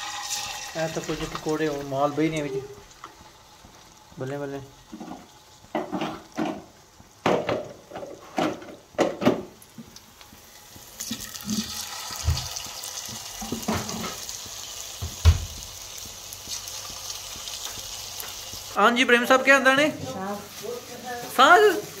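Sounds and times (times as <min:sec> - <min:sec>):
frying sizzle in hot oil: 0:00.0 - 0:22.0.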